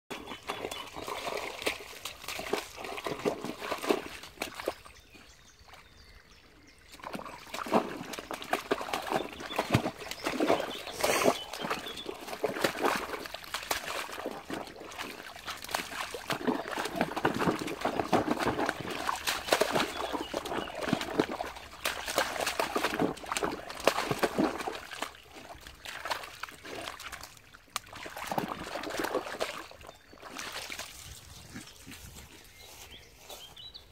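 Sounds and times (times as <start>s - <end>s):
puppy lapping water: 0.1s - 4.8s, 6.9s - 32.3s.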